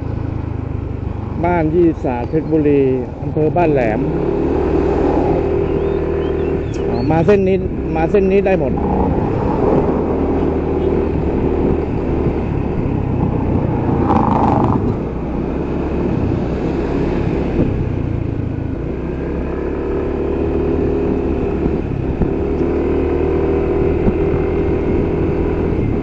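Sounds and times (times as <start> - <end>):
road rumble: 0.0 - 26.0
vehicle engine running: 0.0 - 26.0.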